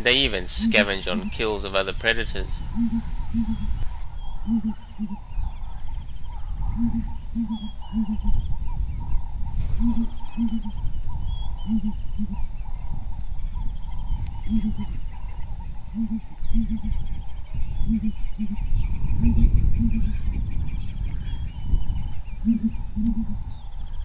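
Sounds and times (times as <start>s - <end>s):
hornbills booming: 0.0s - 21.7s.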